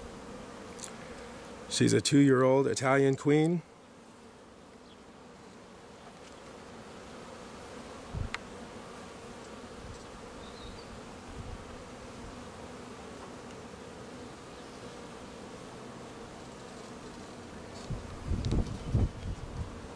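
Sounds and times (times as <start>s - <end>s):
bees buzzing: 0.0s - 19.9s.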